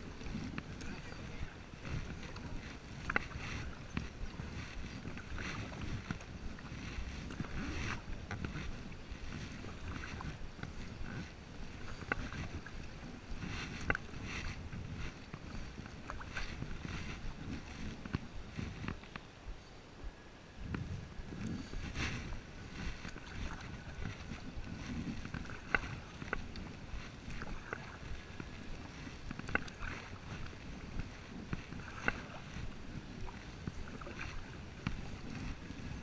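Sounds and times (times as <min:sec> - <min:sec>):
paddle splashing in water: 0:00.0 - 0:19.1, 0:20.8 - 0:36.0
wind rumble on microphone: 0:00.0 - 0:36.0.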